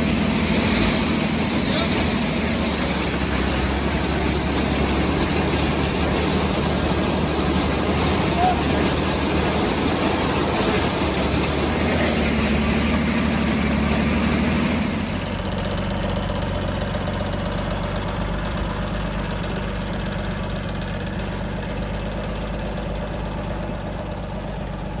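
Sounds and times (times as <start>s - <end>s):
combine machinery: 0.0s - 25.0s
tractor engine running: 0.0s - 25.0s.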